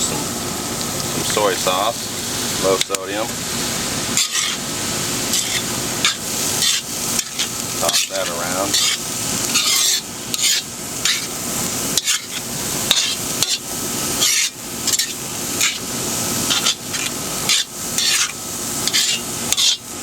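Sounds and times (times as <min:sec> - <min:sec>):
rice sizzling in a wok: 0:00.0 - 0:20.0
utensil scraping and knocking wok: 0:01.2 - 0:20.0.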